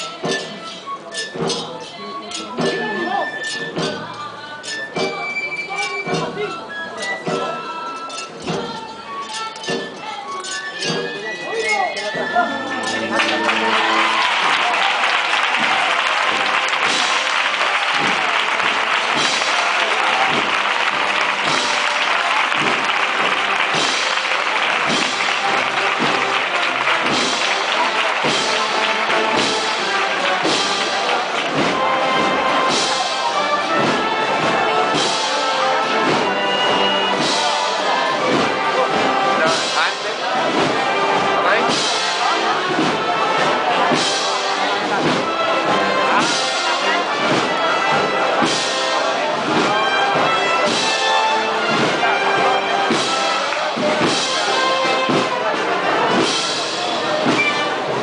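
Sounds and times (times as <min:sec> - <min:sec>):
brass band playing march: 0:00.0 - 0:58.0
drum strokes: 0:00.0 - 0:58.0.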